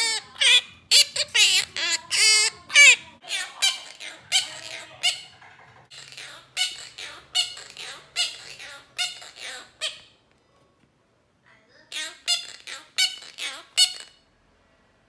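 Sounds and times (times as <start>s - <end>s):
parakeet squawking: 0.0s - 10.2s, 11.9s - 14.3s.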